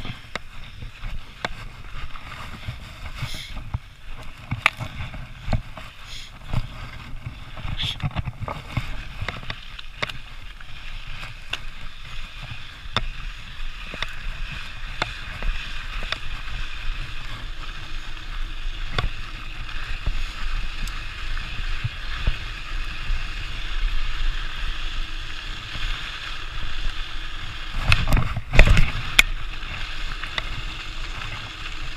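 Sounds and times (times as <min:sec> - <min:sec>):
bike clicks and rattles: 0:00.0 - 0:31.9
tyre and wind rush: 0:00.0 - 0:31.9.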